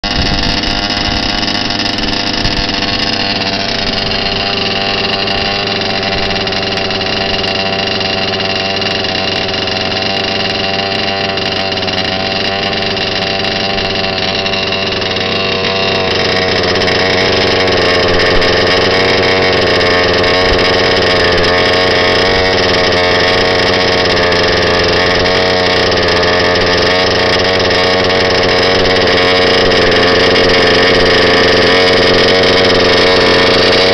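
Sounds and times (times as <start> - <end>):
two-stroke engine idling: 0.0 - 33.9.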